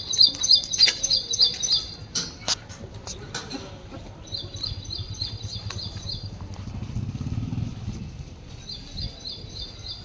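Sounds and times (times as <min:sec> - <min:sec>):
vehicle engine rumble: 0:01.8 - 0:10.0.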